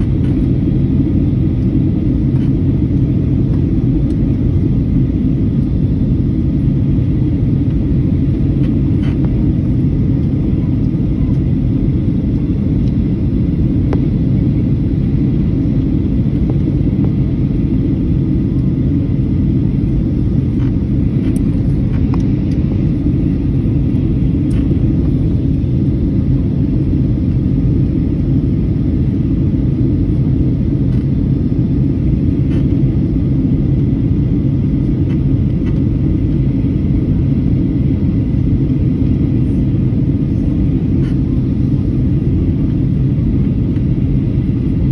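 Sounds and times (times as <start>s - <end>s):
airliner engines droning in cabin: 0.0s - 44.9s.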